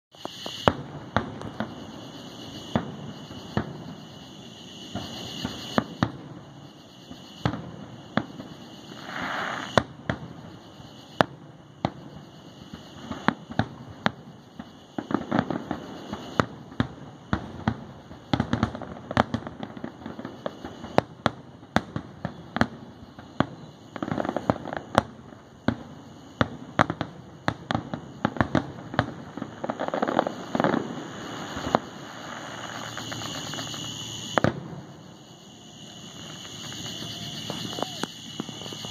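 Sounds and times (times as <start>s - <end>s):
fireworks bursting with sharp bangs: 0.1s - 38.9s.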